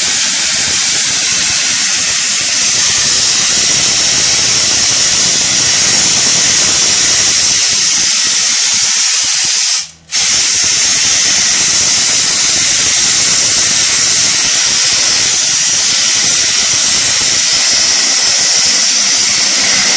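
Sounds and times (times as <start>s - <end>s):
blasting nozzle hissing: 0.0s - 19.9s.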